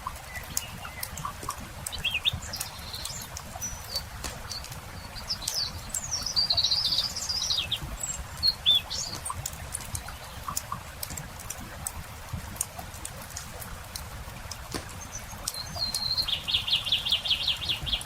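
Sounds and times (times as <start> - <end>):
campfire crackling and popping: 0.0 - 6.8, 7.6 - 16.6
songbirds chirping: 0.0 - 18.0.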